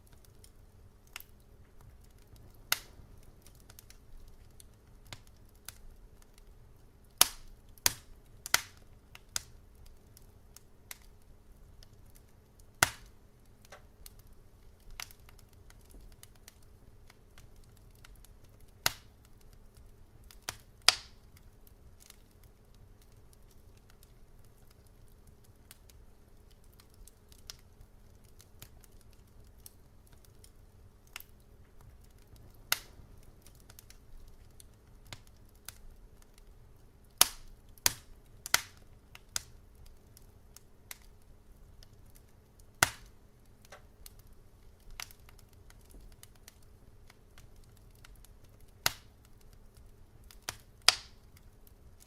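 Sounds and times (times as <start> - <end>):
faint low hum: 0.0 - 52.0
wood fire crackling: 0.0 - 52.0.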